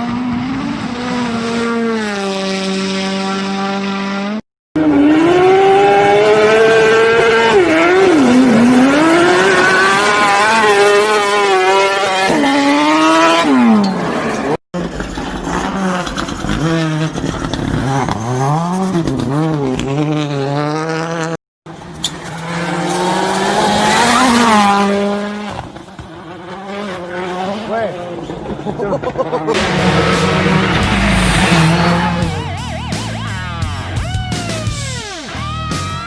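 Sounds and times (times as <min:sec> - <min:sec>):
rally car engines revving: 0:00.0 - 0:36.0.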